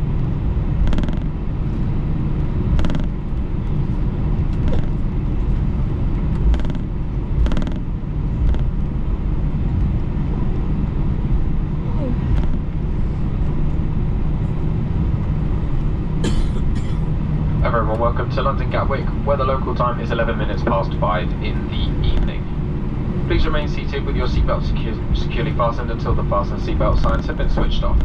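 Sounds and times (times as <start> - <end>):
low rumble of engines and airflow: 0.0 - 28.0.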